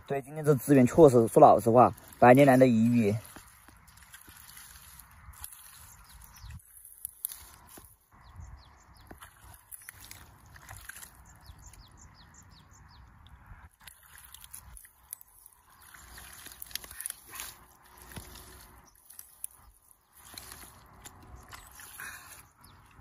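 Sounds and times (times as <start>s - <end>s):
hands squelching in wet mud: 0.1s - 23.0s.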